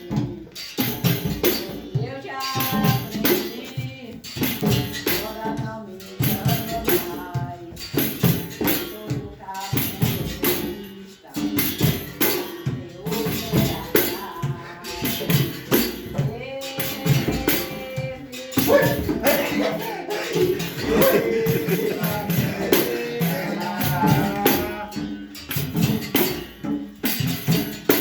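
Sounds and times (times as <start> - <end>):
voices singing: 0.0 - 26.8
tambourine strikes: 0.0 - 28.0
berimbau: 0.1 - 28.0.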